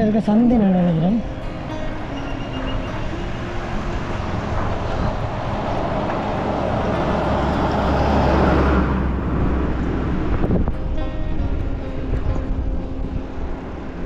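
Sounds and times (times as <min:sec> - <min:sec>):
diesel lorry passing: 0:00.0 - 0:14.0
steady road noise: 0:00.0 - 0:14.0.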